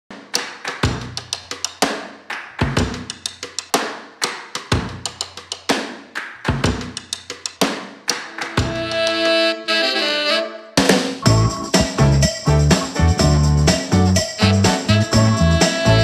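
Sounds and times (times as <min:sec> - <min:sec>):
drum kit playing steady beat: 0:00.1 - 0:10.1, 0:10.8 - 0:16.0.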